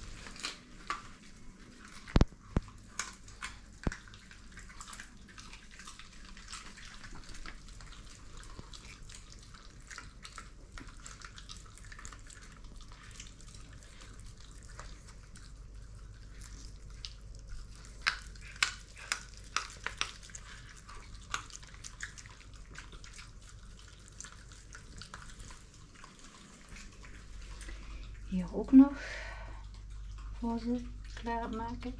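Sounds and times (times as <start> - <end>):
dogs chewing and licking: 0.0 - 31.9.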